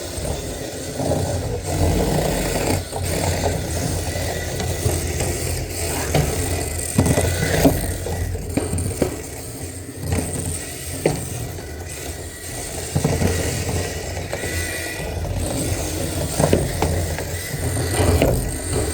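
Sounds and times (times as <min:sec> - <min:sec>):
rc car motors and wheels: 0:00.0 - 0:18.9.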